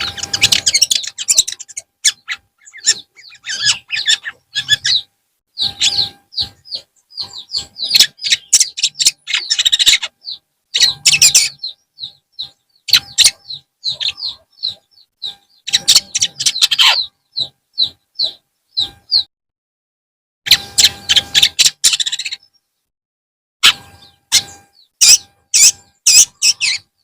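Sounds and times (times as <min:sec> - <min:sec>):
bird chattering and chirping: 0:00.0 - 0:19.3, 0:20.5 - 0:22.6, 0:23.6 - 0:27.0.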